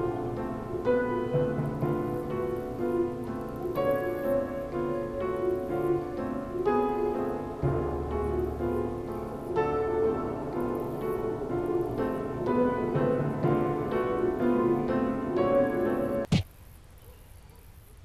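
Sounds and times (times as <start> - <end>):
piano music: 0.0 - 16.3.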